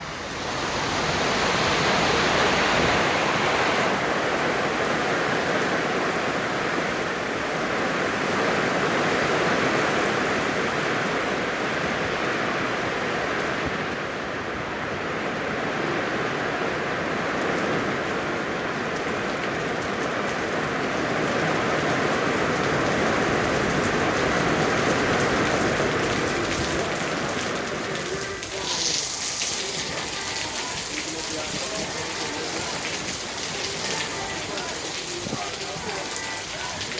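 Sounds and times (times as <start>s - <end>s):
rain falling: 0.0s - 36.9s
waves washing on shore: 0.0s - 36.9s.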